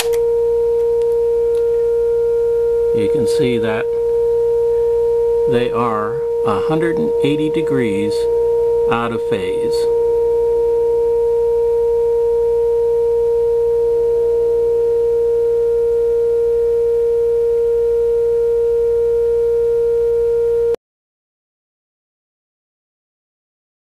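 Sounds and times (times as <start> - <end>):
sine-wave test tone: 0.0 - 20.8.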